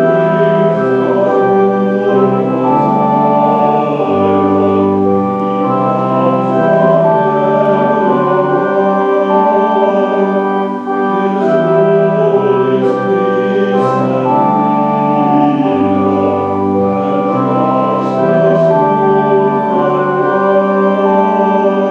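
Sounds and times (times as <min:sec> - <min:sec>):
church organ chords: 0:00.0 - 0:21.9.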